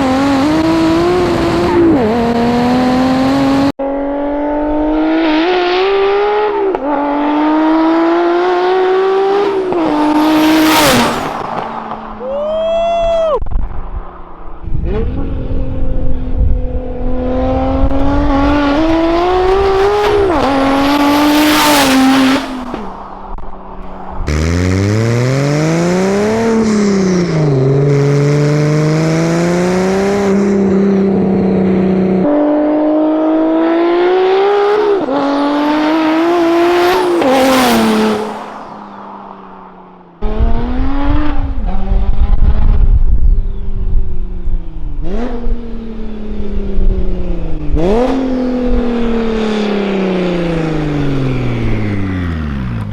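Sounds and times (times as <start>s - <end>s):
car engine accelerating: 0.0s - 12.2s, 14.6s - 42.8s, 44.6s - 52.9s.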